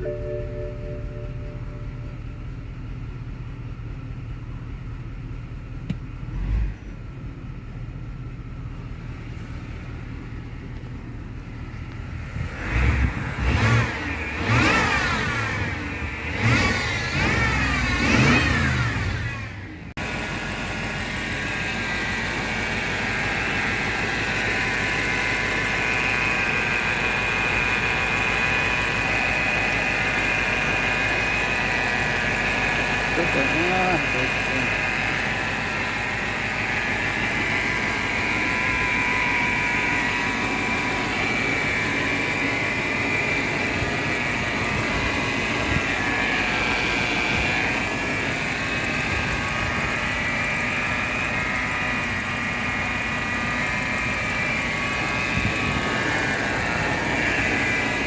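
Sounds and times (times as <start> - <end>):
car engine idling and revving: 0.0 - 58.0
engine whine: 0.0 - 58.0.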